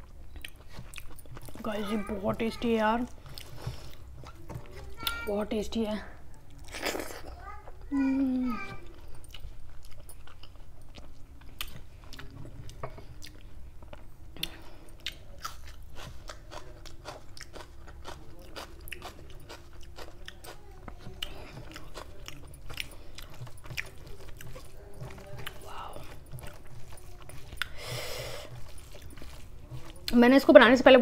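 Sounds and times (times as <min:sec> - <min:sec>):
person chewing food: 0:00.0 - 0:05.3, 0:06.3 - 0:30.8.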